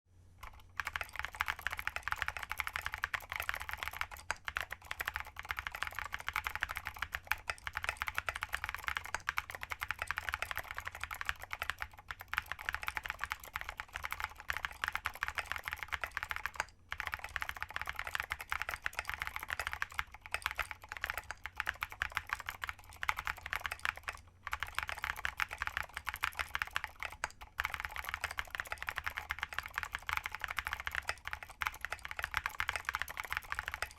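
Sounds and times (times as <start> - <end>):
fast typing on clicky keyboard: 0.4 - 33.9.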